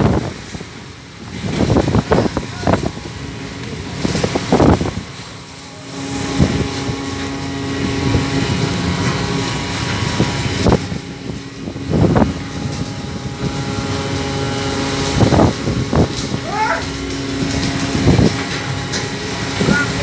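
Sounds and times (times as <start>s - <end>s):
boat engine running: 0.0s - 20.0s
wind noise on microphone: 0.0s - 20.0s.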